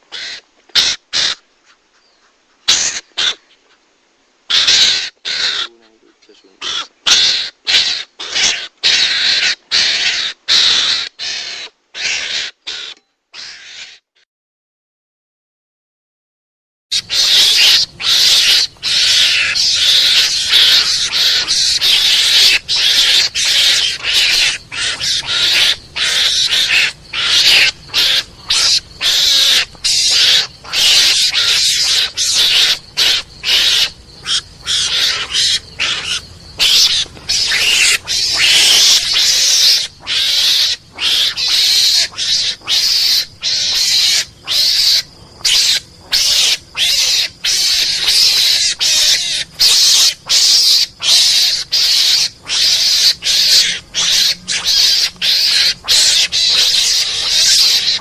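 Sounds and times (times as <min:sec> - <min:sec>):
mongoose hissing chatters: 0:02.7 - 0:03.4, 0:04.5 - 0:14.0, 0:17.0 - 0:58.0.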